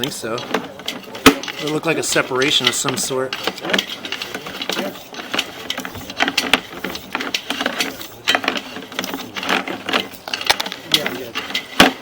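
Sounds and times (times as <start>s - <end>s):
cable reel clicking and rattling: 0.0s - 12.0s.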